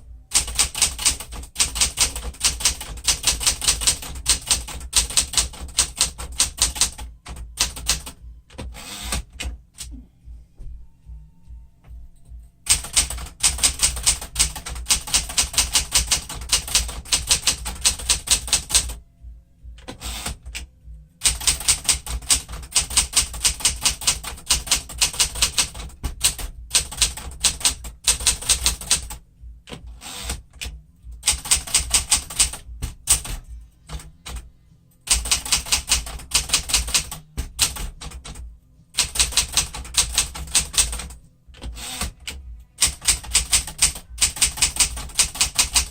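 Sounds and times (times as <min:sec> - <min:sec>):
manual typewriter typing: 0:00.3 - 0:09.9, 0:12.6 - 0:19.0, 0:19.8 - 0:45.9.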